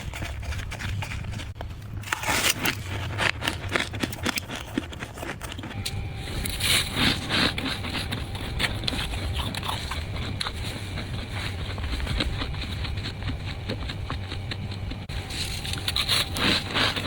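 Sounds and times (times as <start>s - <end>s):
frost scraping and crackling: 0.0s - 17.0s
steady low hum: 0.0s - 17.0s.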